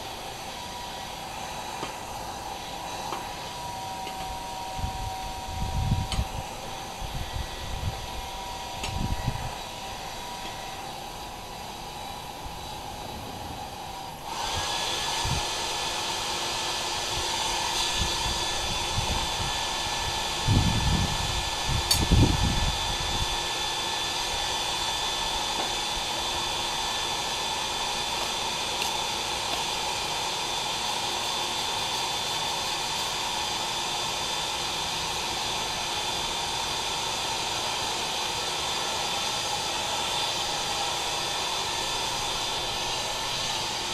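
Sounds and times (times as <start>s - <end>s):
electric blower rushing: 0.0s - 43.9s
motor whining as it spins up: 0.0s - 43.9s.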